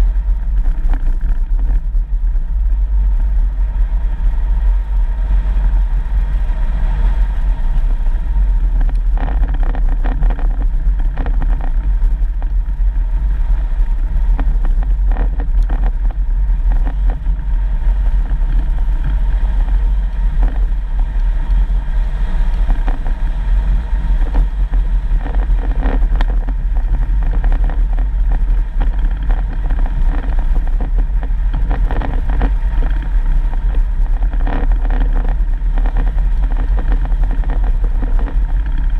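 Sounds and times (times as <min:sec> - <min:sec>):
vehicle rumbling on dirt road: 0:00.0 - 0:38.9.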